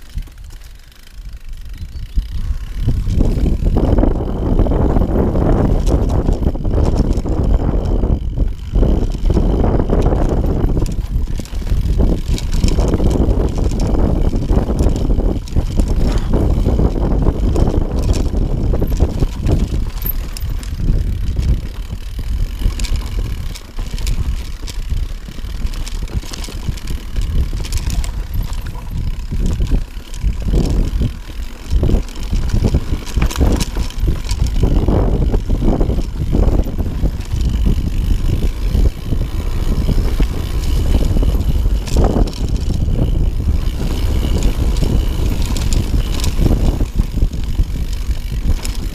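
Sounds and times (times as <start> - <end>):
bike knocking and rattling: 0.0 - 48.9
bike tyres rumbling over stones: 0.0 - 48.9
wind rumble on microphone: 0.0 - 48.9.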